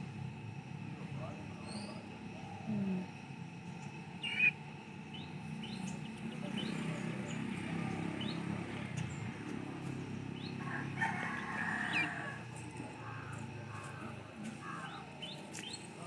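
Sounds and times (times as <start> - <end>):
low outdoor background: 0.0 - 16.0
small birds chirping: 1.2 - 16.0.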